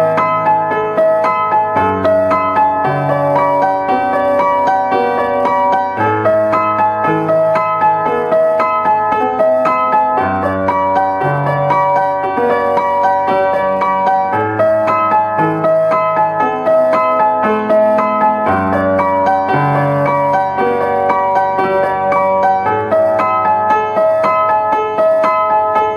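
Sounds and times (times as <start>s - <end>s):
slow piano piece: 0.0s - 25.9s.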